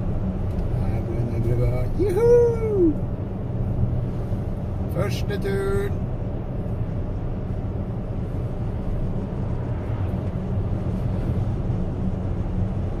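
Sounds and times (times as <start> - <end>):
tyre and road noise in car: 0.0 - 13.0.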